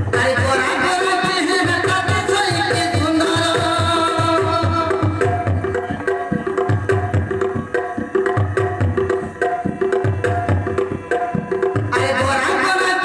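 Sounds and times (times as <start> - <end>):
folk dance music with drum beat: 0.0 - 13.0.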